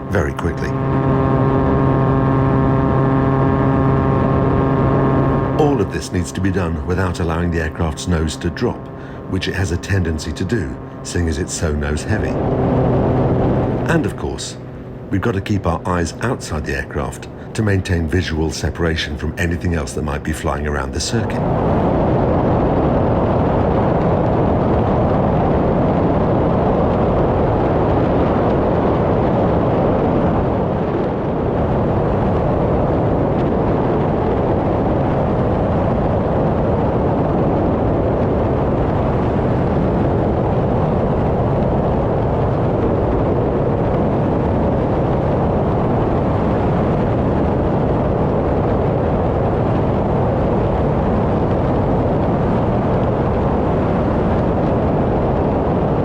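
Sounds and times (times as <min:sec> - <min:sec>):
propeller plane engine drone: 0:00.0 - 0:56.0.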